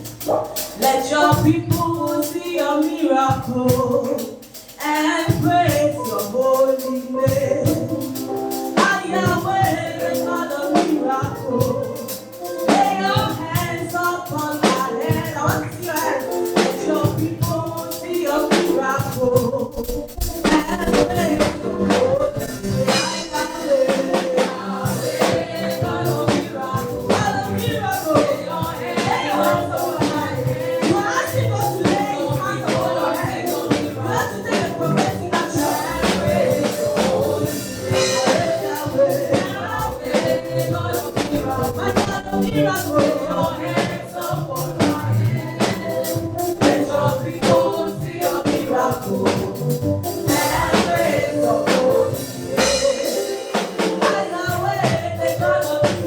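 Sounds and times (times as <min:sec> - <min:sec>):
band with drums: 0:00.0 - 0:56.0
choir singing: 0:06.0 - 0:56.0.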